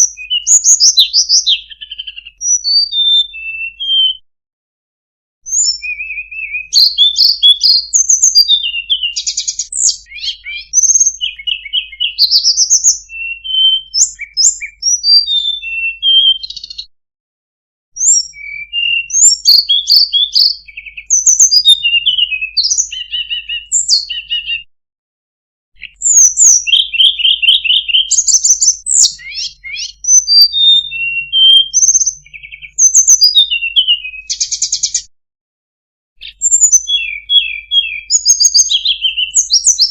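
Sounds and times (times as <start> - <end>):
bird singing chirps and trills: 0.0 - 4.2, 5.4 - 16.9, 18.0 - 24.7, 25.8 - 35.1, 36.2 - 39.9.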